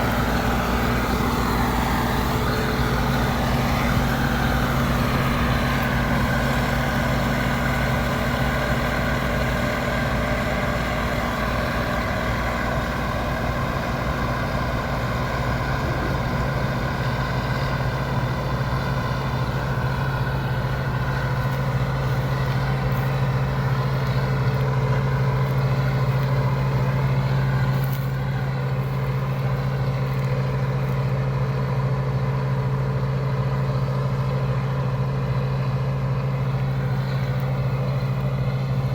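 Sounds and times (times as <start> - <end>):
harvesting machine engine running: 0.0 - 38.9.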